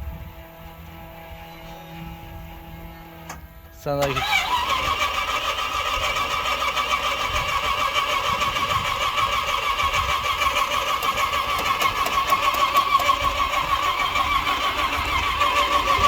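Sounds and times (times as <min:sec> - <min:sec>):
engine idling unevenly: 0:00.0 - 0:16.0
supercharger whine: 0:00.0 - 0:16.0.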